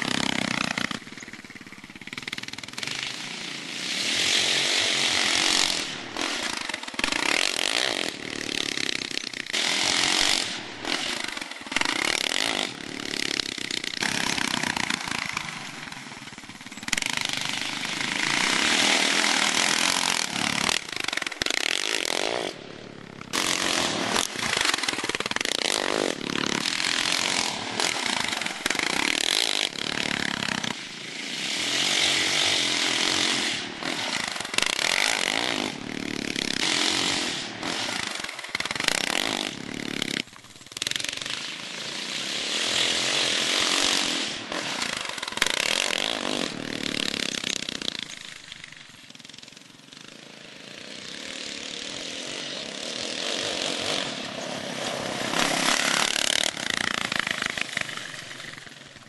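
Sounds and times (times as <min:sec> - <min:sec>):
quad engine revving hard: 0:00.0 - 0:48.4, 0:50.2 - 0:59.0.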